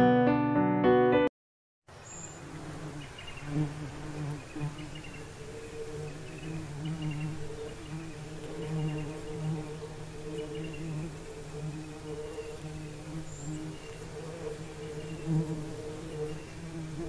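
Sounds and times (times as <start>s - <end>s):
bee buzzing in flight: 2.2s - 17.0s.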